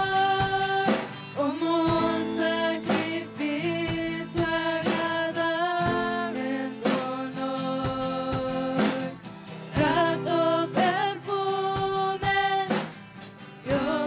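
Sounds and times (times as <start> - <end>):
women singing in harmony: 0.0 - 12.9, 13.6 - 14.0
acoustic and electric guitar: 0.0 - 14.0
drum kit beats: 0.0 - 14.0.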